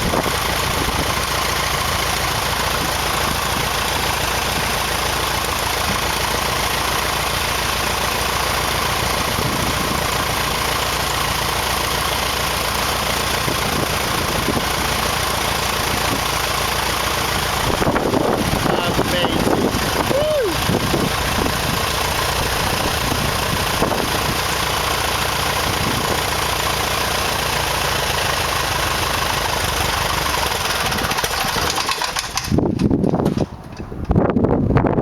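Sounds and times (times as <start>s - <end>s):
light aircraft engine running: 0.0s - 34.9s.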